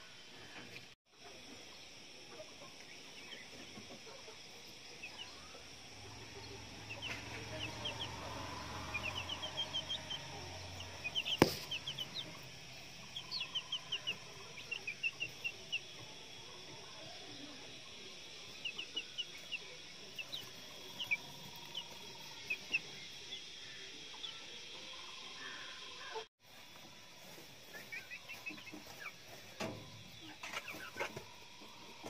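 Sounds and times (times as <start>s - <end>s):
chickens peeping: 0.0s - 32.0s.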